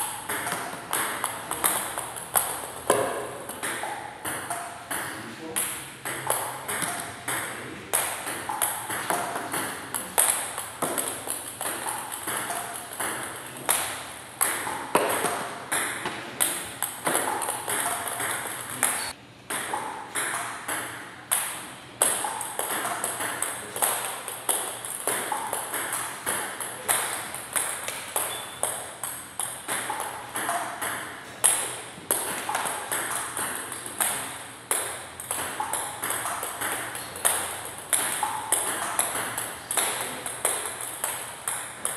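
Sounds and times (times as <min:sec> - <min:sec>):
table tennis ball clicking: 0:00.0 - 0:41.9.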